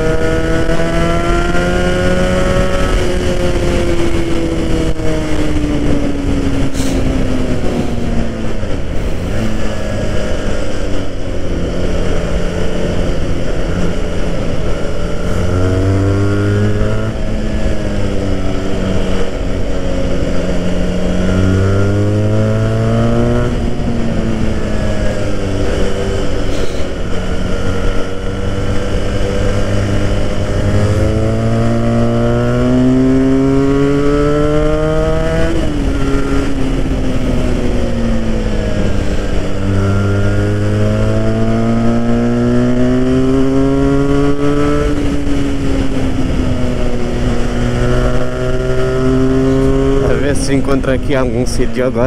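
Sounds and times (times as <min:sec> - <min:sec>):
motorcycle engine revving: 0:00.0 - 0:52.0
wind rushing over microphone: 0:00.0 - 0:52.0.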